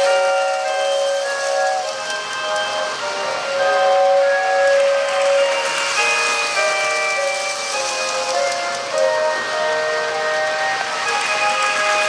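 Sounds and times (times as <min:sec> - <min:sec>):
tinny tune from toy train: 0:00.0 - 0:12.0
train wheels hissing on track: 0:00.0 - 0:12.0.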